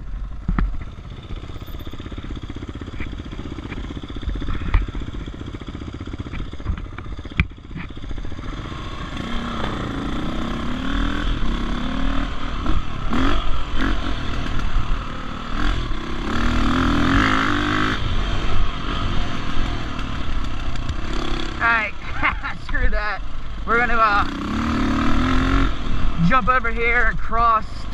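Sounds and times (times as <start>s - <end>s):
dirt bike engine revving: 0.8s - 27.9s.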